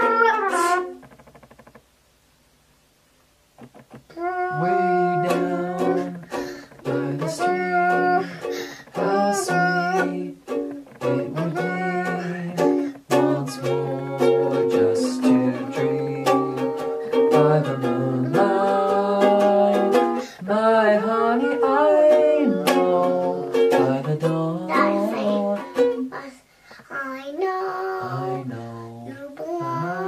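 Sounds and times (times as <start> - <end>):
man and girl singing: 0.0 - 1.1, 4.1 - 30.0
strummed stringed instrument: 0.0 - 1.9, 3.6 - 26.3.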